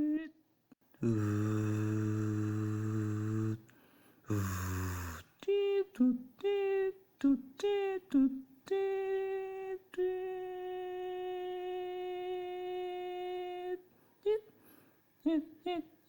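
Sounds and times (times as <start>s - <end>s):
person humming: 0.0s - 0.4s, 1.0s - 3.7s, 4.3s - 14.5s, 15.2s - 15.9s.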